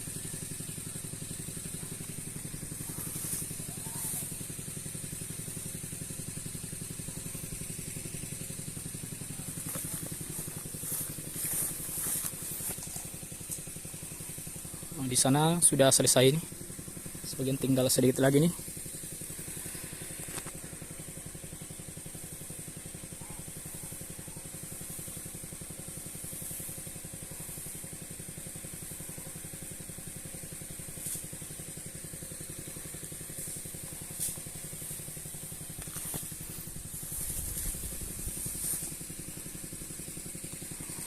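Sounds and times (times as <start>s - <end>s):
high-pressure spray hiss: 0.0s - 41.0s
small petrol engine running: 0.0s - 41.0s.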